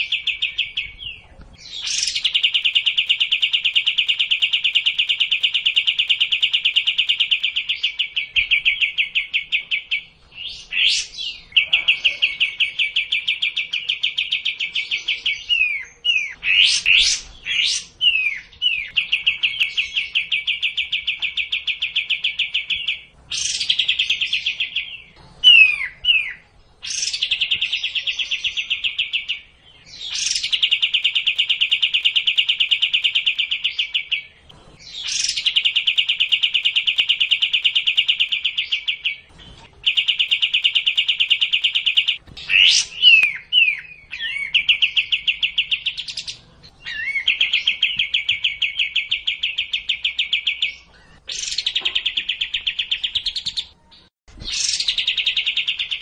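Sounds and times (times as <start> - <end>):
bird chattering: 0.0 - 1.0, 1.6 - 53.8, 54.4 - 56.0.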